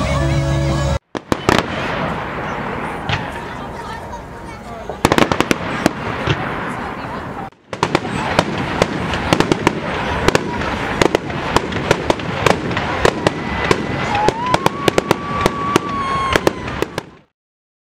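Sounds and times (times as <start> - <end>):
fireworks banging and crackling: 1.0 - 17.3.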